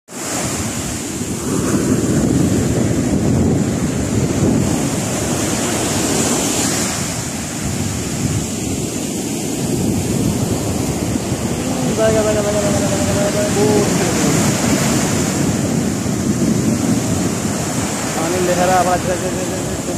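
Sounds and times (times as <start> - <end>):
surf washing over sand: 0.1 - 19.9
wind buffeting microphone: 0.2 - 19.9.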